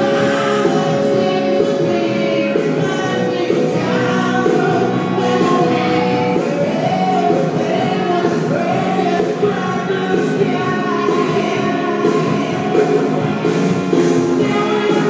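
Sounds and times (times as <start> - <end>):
music with singing voice: 0.0 - 15.0.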